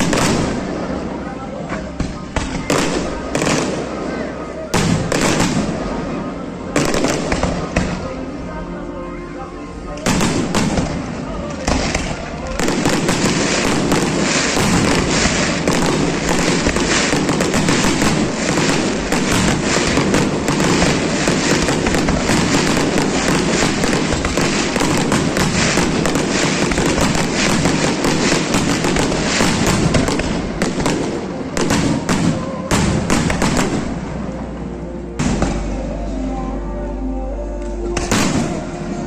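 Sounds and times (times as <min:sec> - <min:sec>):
fireworks crackling and banging: 0:00.0 - 0:08.7, 0:09.7 - 0:35.9, 0:38.0 - 0:39.0.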